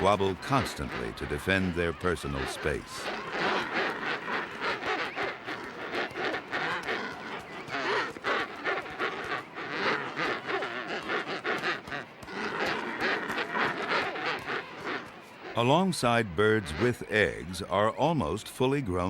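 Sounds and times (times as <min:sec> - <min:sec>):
harsh squawks: 0:00.0 - 0:17.7
penguins calling: 0:00.0 - 0:19.0.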